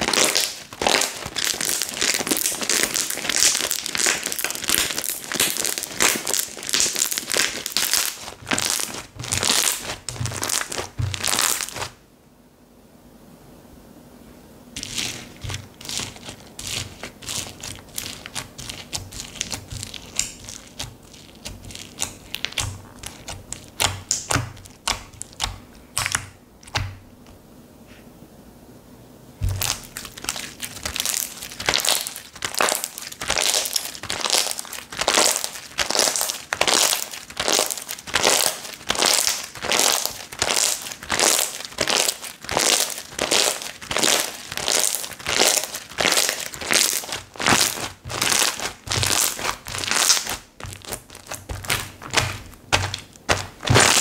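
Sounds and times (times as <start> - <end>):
slime crackling and popping: 0.0 - 12.0, 14.8 - 26.9, 29.4 - 54.0.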